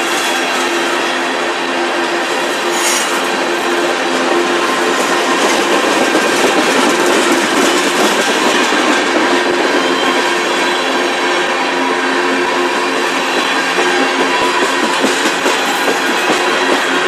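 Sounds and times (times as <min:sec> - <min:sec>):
freight train wheels clattering on rails: 0:00.0 - 0:17.0.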